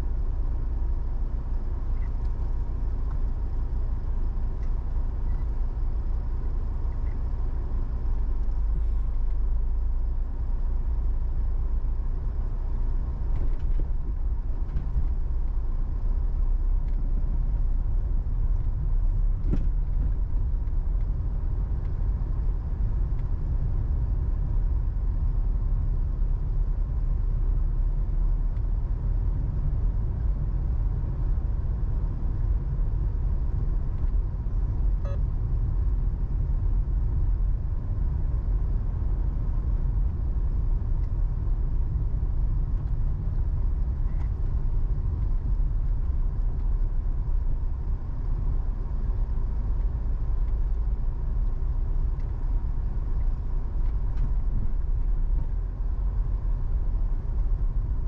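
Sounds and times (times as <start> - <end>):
car engine and tyres rumbling: 0.0 - 58.0
faint steady whine: 0.0 - 58.0.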